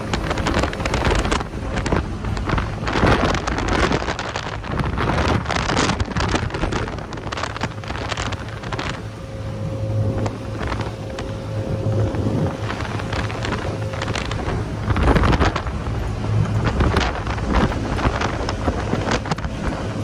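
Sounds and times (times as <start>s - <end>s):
speedboat engine drone: 0.0s - 20.0s
wind buffeting microphone: 0.0s - 20.0s.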